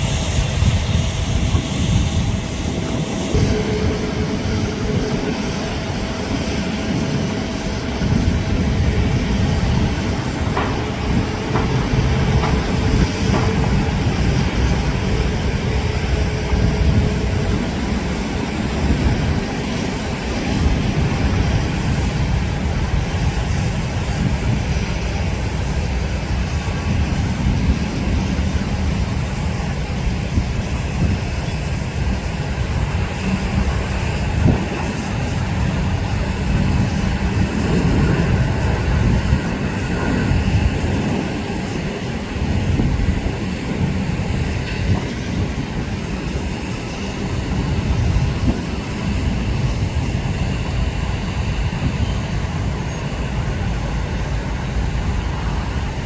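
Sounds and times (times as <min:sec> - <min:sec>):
faint jet engine whine: 0:00.0 - 0:56.0
jet engines rumbling: 0:00.0 - 0:56.0.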